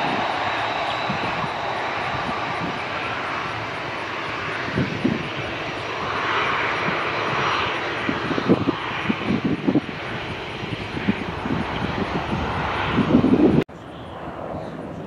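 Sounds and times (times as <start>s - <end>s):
distant aircraft engine drone: 0.0s - 15.0s.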